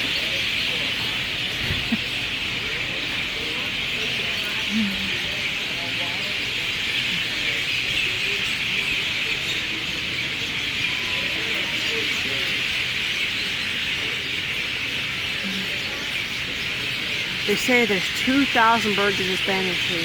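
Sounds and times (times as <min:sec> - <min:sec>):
large flock of birds chattering: 0:00.0 - 0:20.0.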